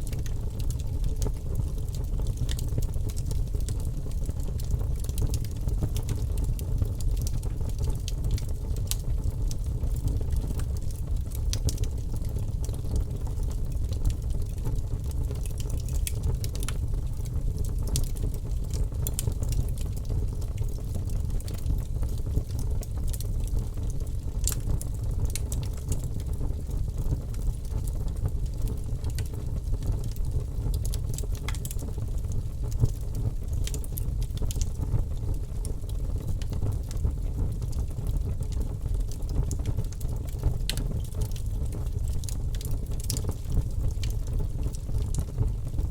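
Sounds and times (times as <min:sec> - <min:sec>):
fire crackling and popping: 0:00.0 - 0:45.9
fire flames rumbling: 0:00.0 - 0:45.9.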